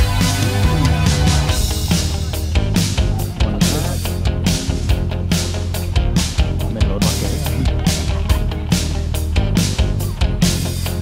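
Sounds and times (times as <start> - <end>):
drum beat: 0.0 - 11.0
sustained bass notes: 0.0 - 11.0.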